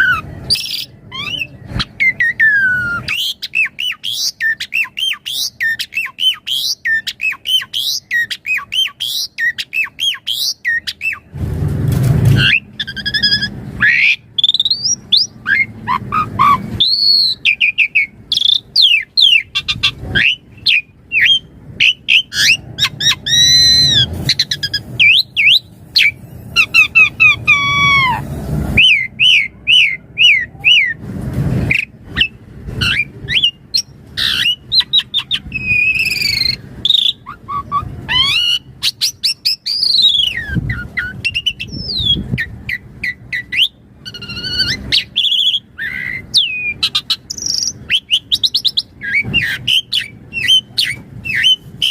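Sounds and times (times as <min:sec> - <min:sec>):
starling singing whistles and chirps: 0:00.0 - 0:11.3, 0:12.3 - 0:31.0, 0:31.7 - 0:51.9.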